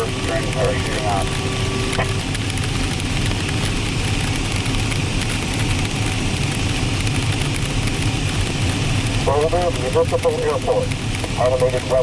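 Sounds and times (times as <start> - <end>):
rushing airflow in cockpit: 0.0 - 12.0.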